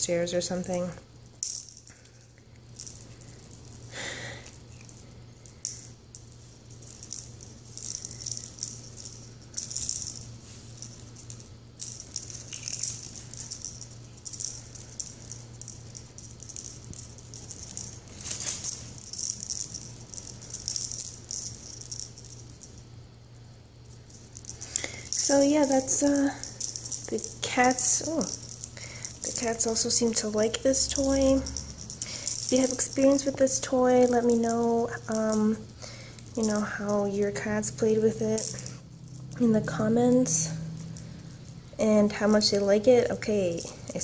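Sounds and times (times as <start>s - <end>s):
small bell jingling: 0.4s - 44.0s.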